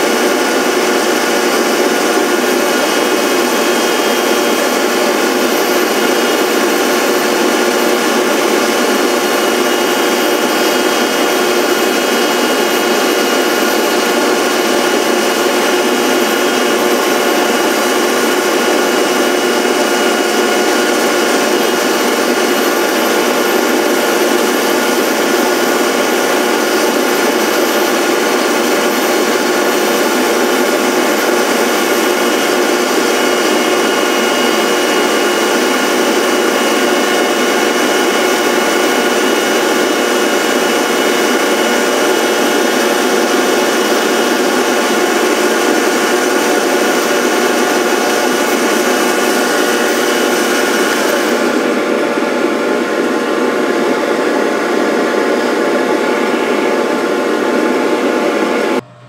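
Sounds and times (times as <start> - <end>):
lathe cutter whining: 0.0 - 59.0.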